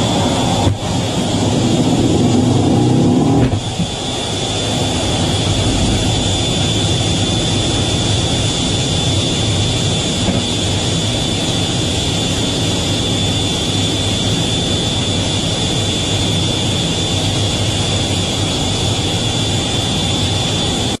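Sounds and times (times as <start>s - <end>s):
high-pitched jet whine: 0.0s - 21.0s
jet engine rumble: 0.0s - 21.0s.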